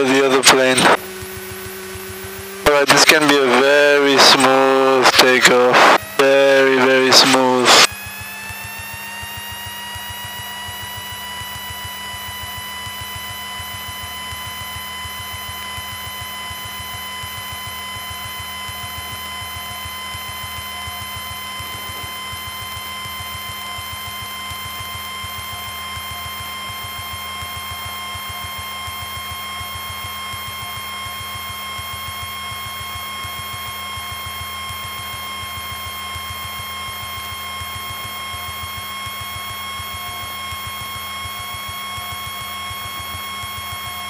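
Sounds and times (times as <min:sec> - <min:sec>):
aircraft engine at high power: 0:00.0 - 0:44.0
steady high whine: 0:00.0 - 0:44.0.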